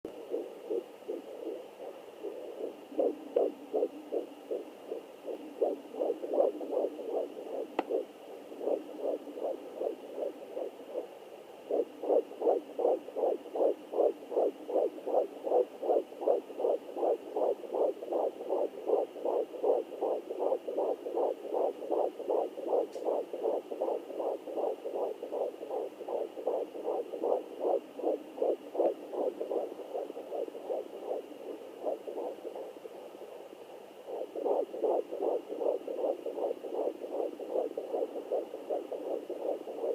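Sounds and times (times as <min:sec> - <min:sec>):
fetal heartbeat on doppler: 0:00.1 - 0:39.9.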